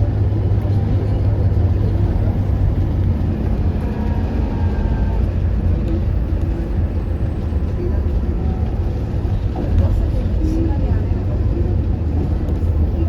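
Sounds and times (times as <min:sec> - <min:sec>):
bus engine droning: 0:00.0 - 0:13.0.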